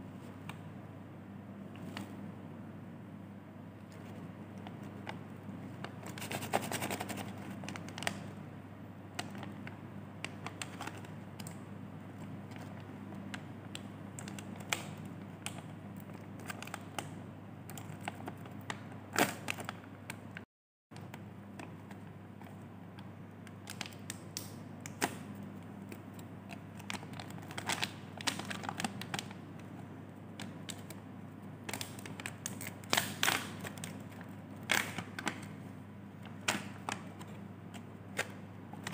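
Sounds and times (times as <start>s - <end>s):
low steady hum: 0.0s - 20.4s, 21.0s - 38.9s.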